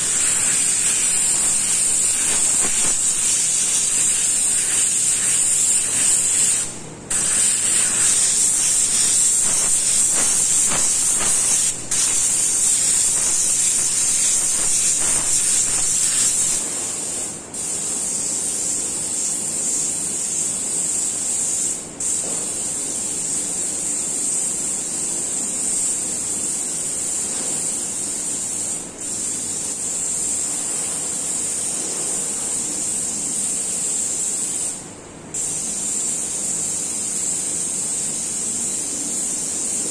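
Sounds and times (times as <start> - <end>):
airbrush spraying hiss: 0.0 - 39.9.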